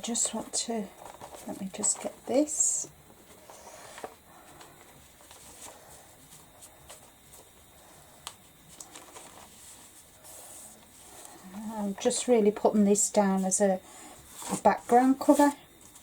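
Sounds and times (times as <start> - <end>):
paper rustling: 0.1 - 2.5, 3.2 - 12.2, 14.2 - 16.0.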